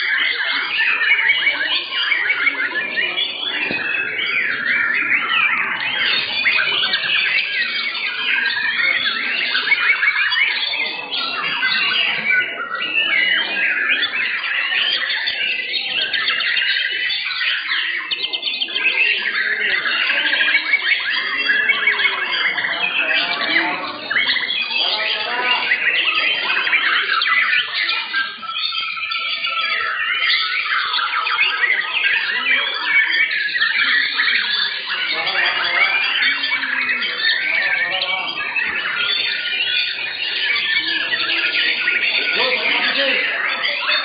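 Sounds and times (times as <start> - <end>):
birds singing in chorus: 0.0 - 44.0.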